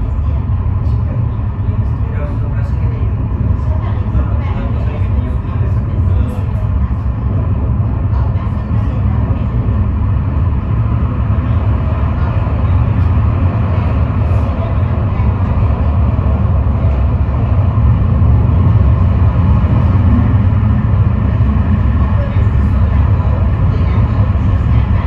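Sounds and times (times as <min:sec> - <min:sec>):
funicular car rumbling on rails: 0:00.0 - 0:25.0.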